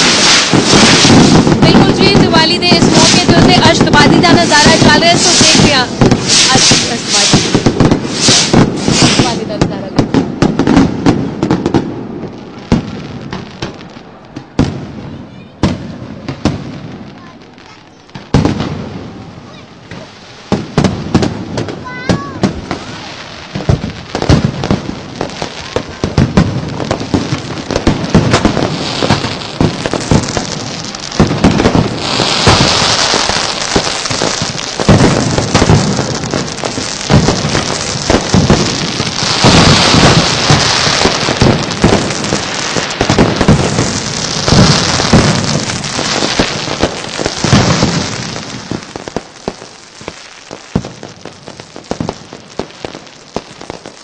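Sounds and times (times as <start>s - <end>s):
fireworks bangs: 0.0s - 54.0s
fireworks hissing crackle: 0.0s - 54.0s.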